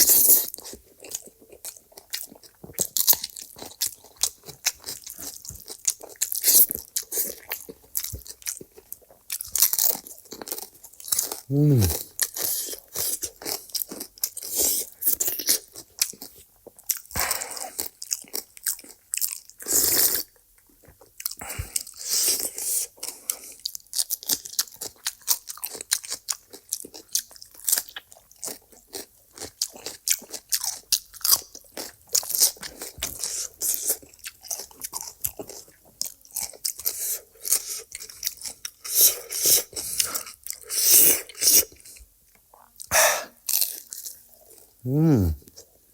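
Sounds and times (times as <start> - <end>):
food being crunched and chewed: 0.0 - 12.4, 17.7 - 22.3, 23.2 - 39.1, 40.1 - 44.8.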